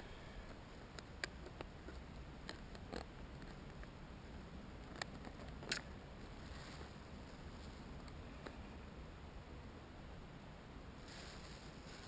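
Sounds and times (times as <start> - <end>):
faint low background noise: 0.0 - 12.0.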